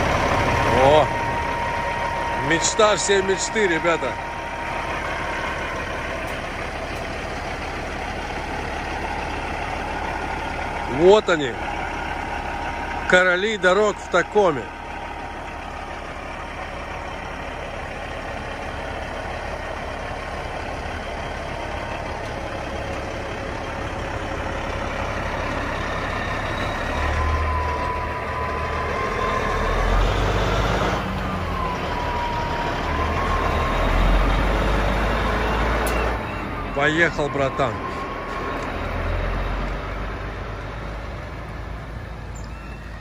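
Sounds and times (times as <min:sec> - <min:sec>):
diesel truck engine driving past: 0:00.0 - 0:43.0.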